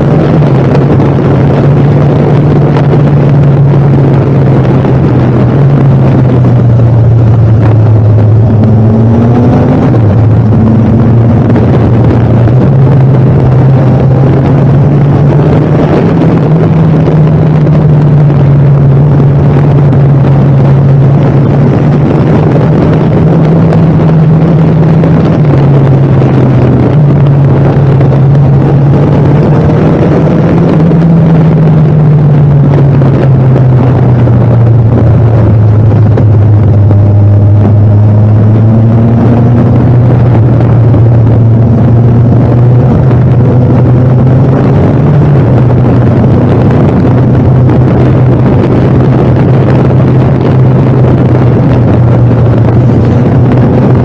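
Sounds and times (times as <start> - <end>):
vehicle engine running: 0.0 - 54.0
wind on microphone: 0.0 - 54.0.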